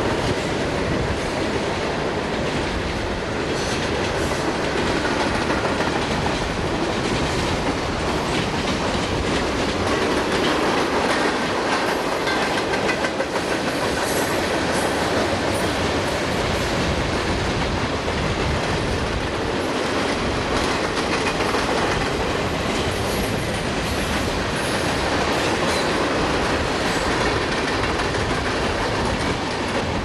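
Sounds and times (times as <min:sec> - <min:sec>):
steel wheels on rails: 0:00.0 - 0:30.0
short clicks of train wheels: 0:02.4 - 0:30.0.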